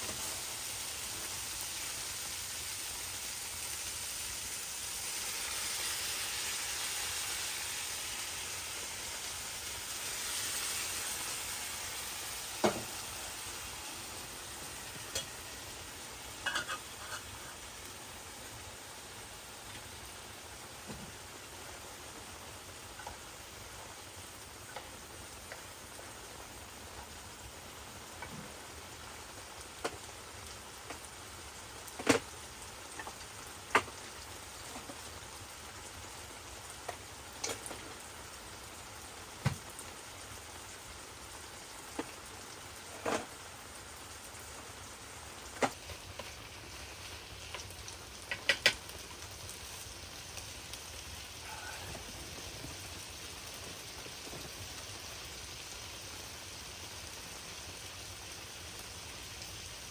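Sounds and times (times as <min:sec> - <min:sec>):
steady hiss of rain: 0:00.0 - 0:59.9.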